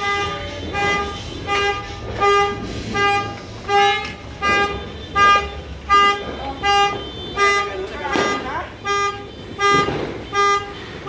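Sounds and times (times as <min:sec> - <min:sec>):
horn tooting: 0:00.0 - 0:11.0.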